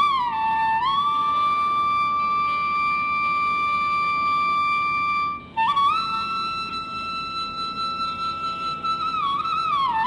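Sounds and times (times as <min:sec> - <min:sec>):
background music held notes: 0:00.0 - 0:10.0.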